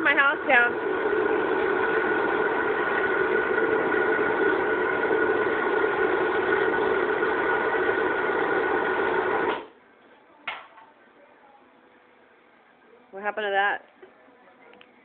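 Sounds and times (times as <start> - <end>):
oil furnace burner humming: 0.0 - 14.1.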